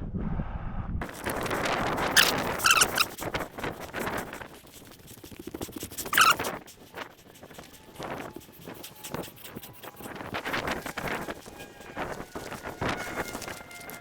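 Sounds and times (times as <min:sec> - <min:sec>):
footsteps through dry brush: 0:01.0 - 0:14.0
sharp crackle: 0:01.0 - 0:14.0
short squeaky scrapes: 0:01.0 - 0:14.0.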